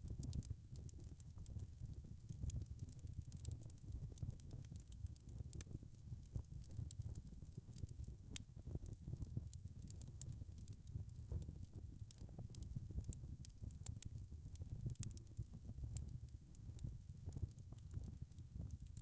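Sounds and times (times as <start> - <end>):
low rumble of burning logs: 0.0 - 19.0
wood fire crackling: 0.1 - 19.0.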